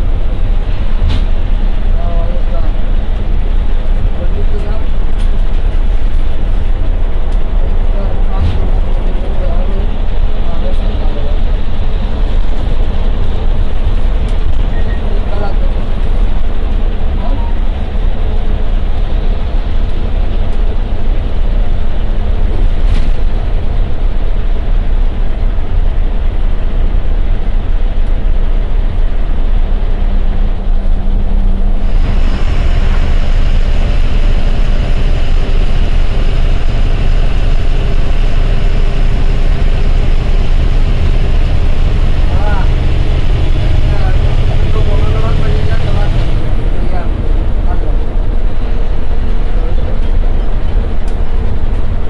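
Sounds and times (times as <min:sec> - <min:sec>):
bus engine droning: 0:00.0 - 0:52.0
high whine: 0:00.0 - 0:52.0
road and rattle noise: 0:00.0 - 0:52.0.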